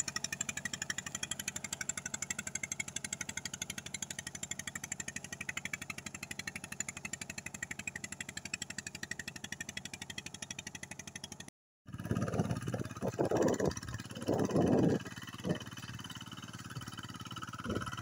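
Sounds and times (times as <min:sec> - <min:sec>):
diesel tiller engine chugging: 0:00.0 - 0:18.0.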